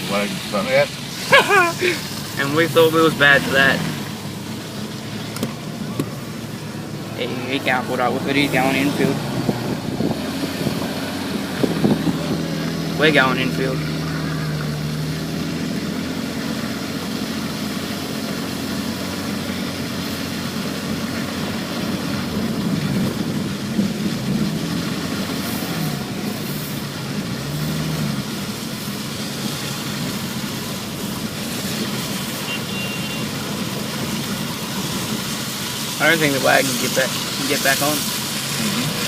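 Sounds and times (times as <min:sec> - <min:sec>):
car engine revving: 0:00.0 - 0:39.0
driving noise: 0:00.0 - 0:39.0.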